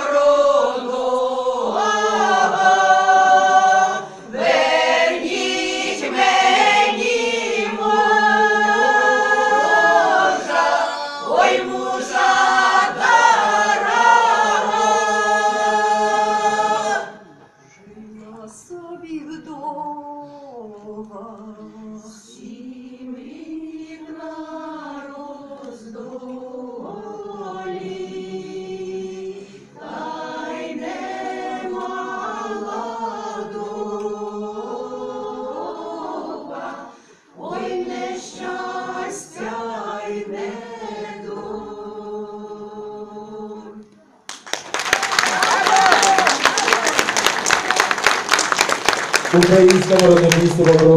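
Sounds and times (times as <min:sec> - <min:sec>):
choir singing a cappella: 0:00.0 - 0:44.2.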